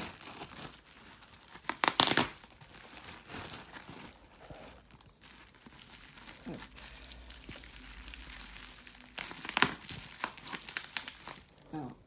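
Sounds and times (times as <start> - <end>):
packing ripping: 0.0 - 11.7
bubble wrap crinkling: 0.0 - 12.0.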